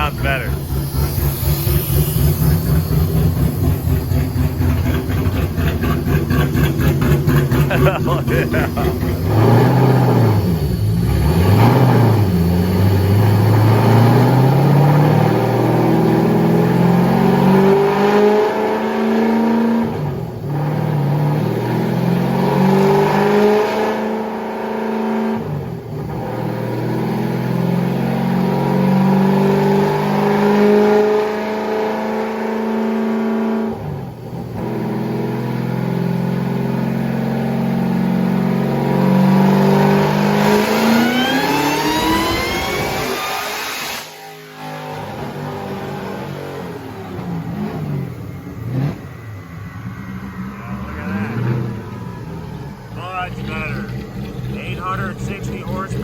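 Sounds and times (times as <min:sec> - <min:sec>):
engine revving through gears: 0:00.0 - 0:56.0.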